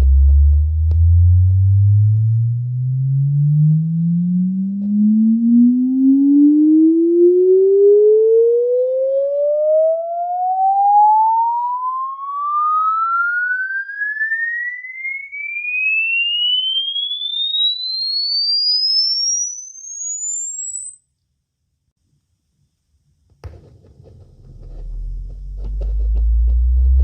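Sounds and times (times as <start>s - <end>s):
sine tone sweeping upward: 0.0s - 21.0s, 24.3s - 27.0s.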